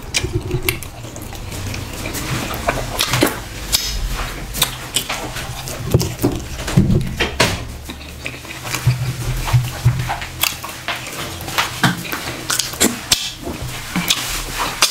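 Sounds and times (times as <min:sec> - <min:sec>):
wet chewing and mouth smacks: 0:00.0 - 0:14.9.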